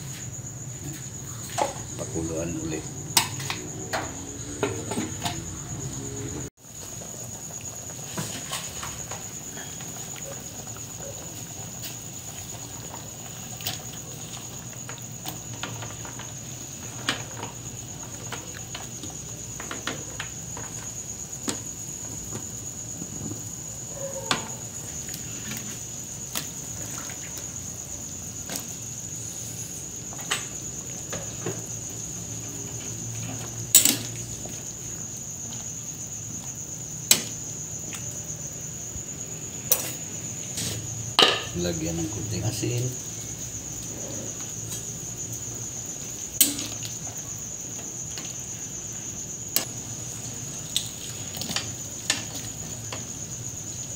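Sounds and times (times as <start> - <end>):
broth boiling in a pot: 0.0 - 53.9.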